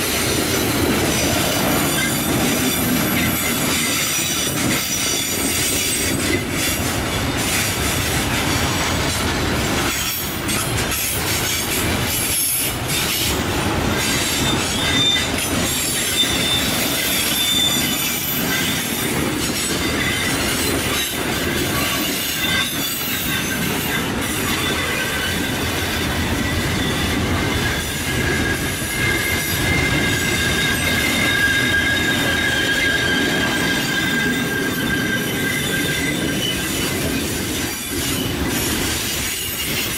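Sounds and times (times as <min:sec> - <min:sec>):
high wheel squeal: 0:00.0 - 0:08.9, 0:09.8 - 0:39.9
steel wheels rumbling on rail: 0:00.0 - 0:39.9.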